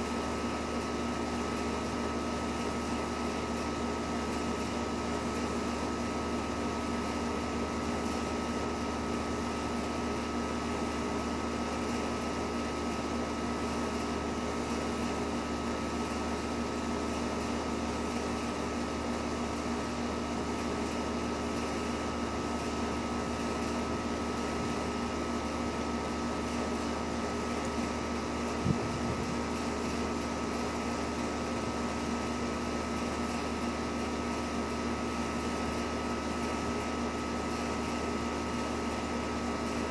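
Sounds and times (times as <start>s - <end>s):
mechanical hum and whir: 0.0s - 39.9s.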